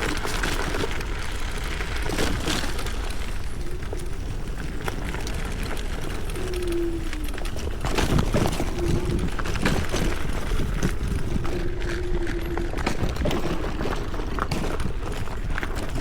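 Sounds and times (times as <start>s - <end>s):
scooter knocking and rattling: 0.0s - 16.0s
tyres crunching on gravel: 0.0s - 16.0s
wind noise: 0.0s - 16.0s.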